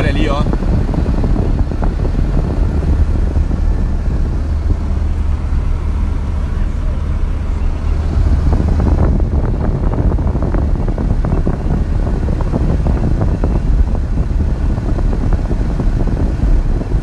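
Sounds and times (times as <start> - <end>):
road and wind noise in car: 0.0 - 17.0.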